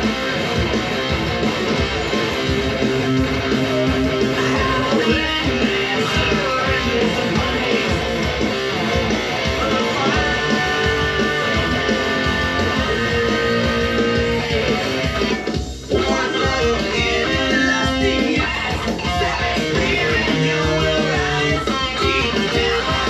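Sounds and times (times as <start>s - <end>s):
electric guitar riff: 0.0s - 23.0s.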